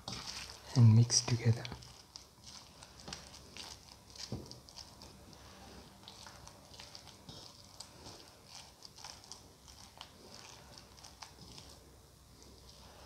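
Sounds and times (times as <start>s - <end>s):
hand mashing food wet squishing: 0.0s - 13.0s.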